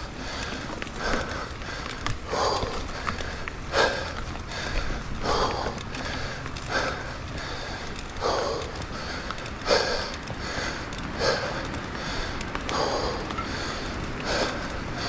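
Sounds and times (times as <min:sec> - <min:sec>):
person breathing hard: 0:00.0 - 0:15.0
steady low rumble: 0:00.0 - 0:15.0.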